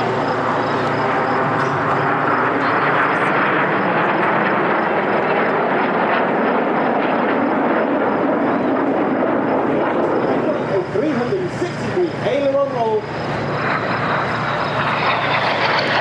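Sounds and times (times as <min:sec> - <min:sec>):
jet roar: 0:00.0 - 0:16.0.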